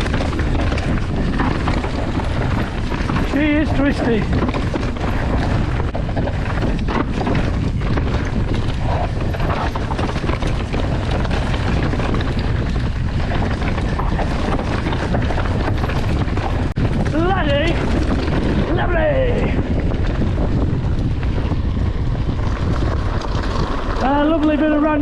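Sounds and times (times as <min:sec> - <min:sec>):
bike rattling over bumps: 0:00.0 - 0:25.0
tyres running over dirt: 0:00.0 - 0:25.0
wind rush on microphone: 0:00.0 - 0:25.0.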